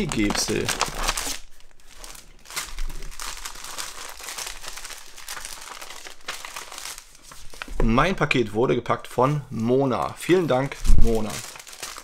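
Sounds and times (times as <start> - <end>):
paper and packaging rustling: 0.0 - 7.9, 9.6 - 12.0.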